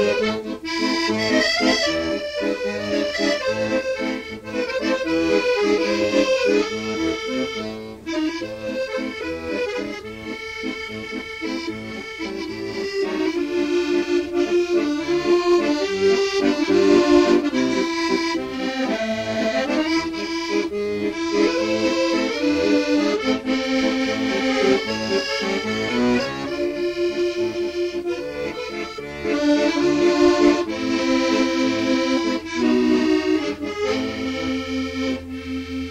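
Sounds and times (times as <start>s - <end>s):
accordion playing waltz: 0.0s - 35.9s.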